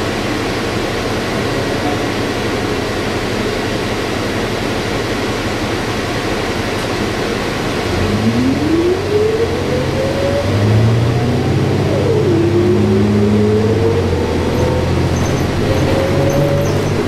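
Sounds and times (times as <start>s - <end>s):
bus engine and ventilation hum: 0.0s - 17.0s
rising engine whine: 0.0s - 17.0s.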